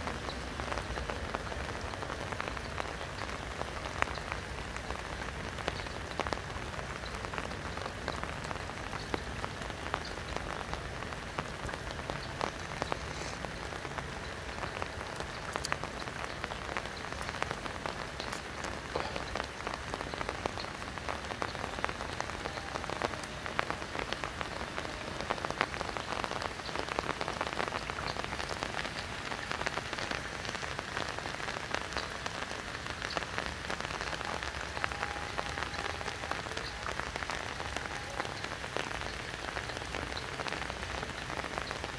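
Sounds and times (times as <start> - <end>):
rain falling on river: 0.0 - 41.9.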